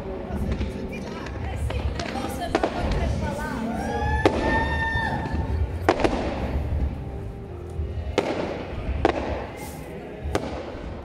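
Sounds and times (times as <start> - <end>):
fireworks bursting with sharp bangs: 0.0 - 11.0
low rumble of explosions: 0.0 - 11.0.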